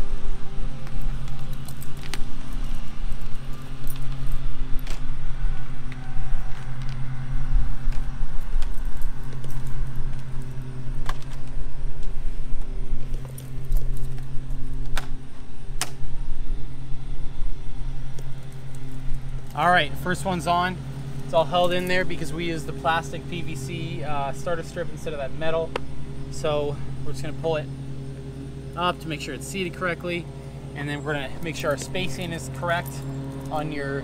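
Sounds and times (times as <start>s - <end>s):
low mechanical motor hum: 0.0s - 34.0s.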